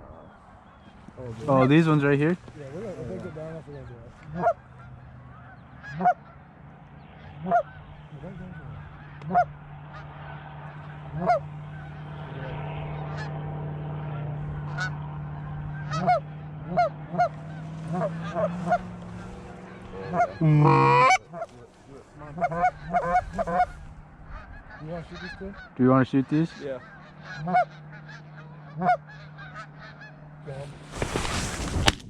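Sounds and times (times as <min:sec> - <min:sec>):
goose honking: 0:00.0 - 0:31.6
steady low hum: 0:00.0 - 0:31.8.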